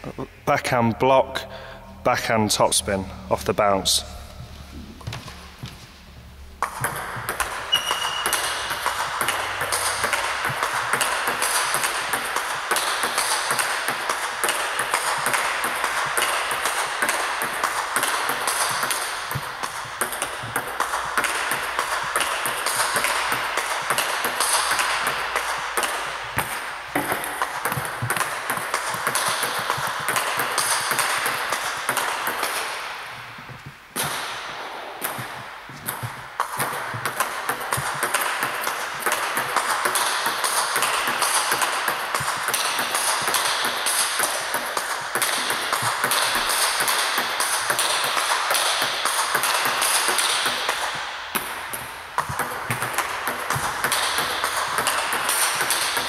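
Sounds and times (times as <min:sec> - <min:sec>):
table tennis ball clicking: 0:06.6 - 0:34.2, 0:35.0 - 0:56.0.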